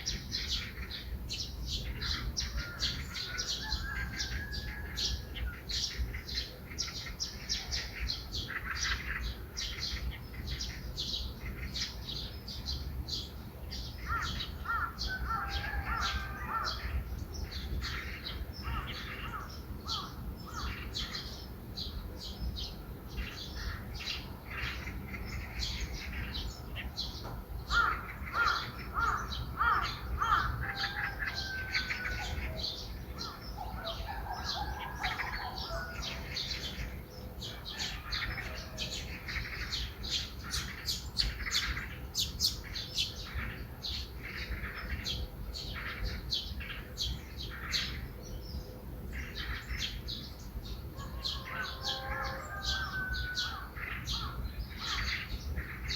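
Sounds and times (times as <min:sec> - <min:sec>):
harsh repeated bird calls: 0:00.0 - 0:22.0, 0:22.7 - 0:48.1, 0:49.2 - 0:55.9
small birds chirping: 0:00.0 - 0:55.9.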